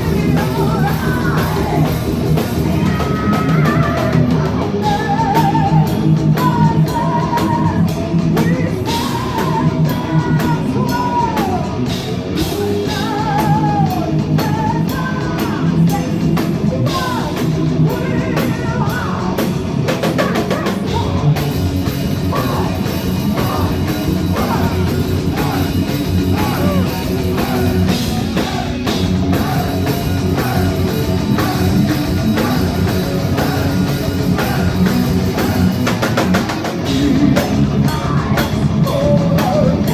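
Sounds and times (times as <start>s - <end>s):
woman singing lead vocal: 0.0s - 21.4s, 22.2s - 36.1s, 36.9s - 39.9s
heavy metal band playing: 0.0s - 39.9s.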